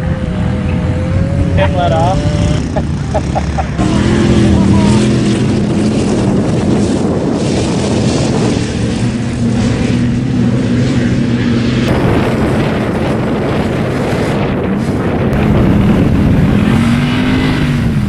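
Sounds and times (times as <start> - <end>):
road noise: 0.0 - 18.0
truck engine running hard: 0.0 - 18.0
wind noise: 0.0 - 18.0.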